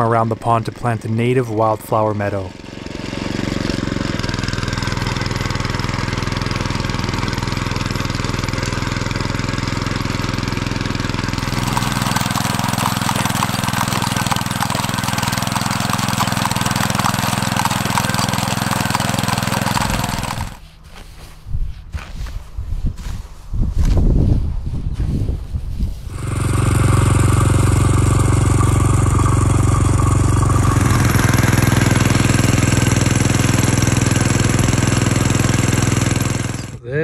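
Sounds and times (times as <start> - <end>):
tiller engine running: 0.0 - 20.6, 26.1 - 36.9
tines churning grass and soil: 2.6 - 24.0, 26.0 - 36.8.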